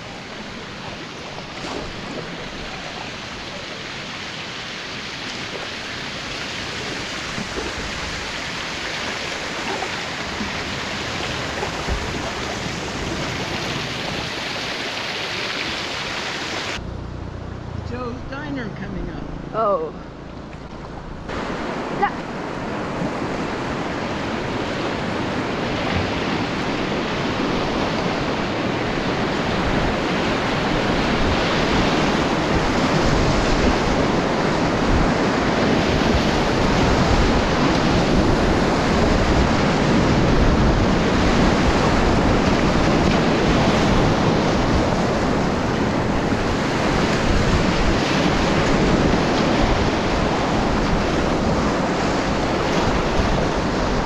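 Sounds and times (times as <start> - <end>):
rushing whitewater: 0.0 - 16.8, 20.4 - 54.0.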